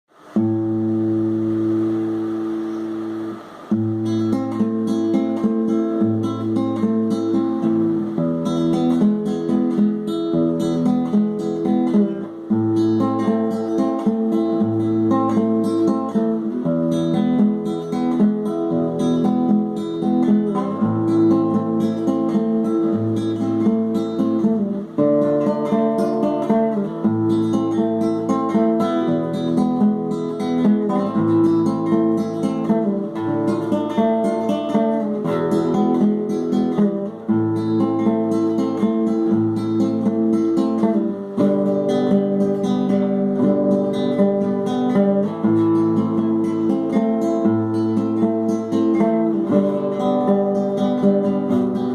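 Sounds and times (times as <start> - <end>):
acoustic guitar strumming: 0.1 - 51.9.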